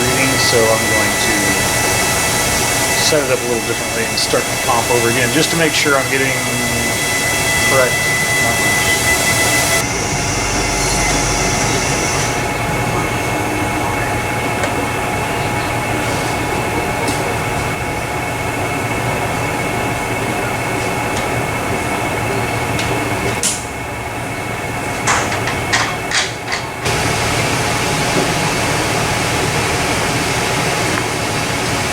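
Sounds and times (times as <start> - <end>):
mechanical drone with whine: 0.0 - 31.9.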